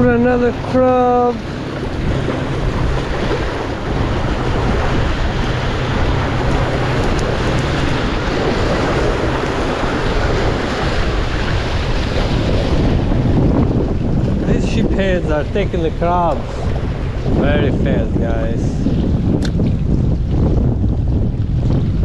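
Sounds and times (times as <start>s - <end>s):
sea water washing on rocks: 0.0s - 22.0s
wind buffeting microphone: 0.0s - 22.0s.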